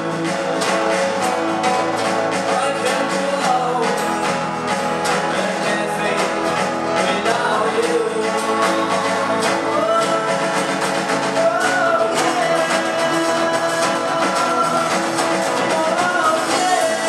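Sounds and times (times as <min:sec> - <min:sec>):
drums: 0:00.0 - 0:17.0
guitar: 0:00.0 - 0:17.0
person singing: 0:00.0 - 0:17.0.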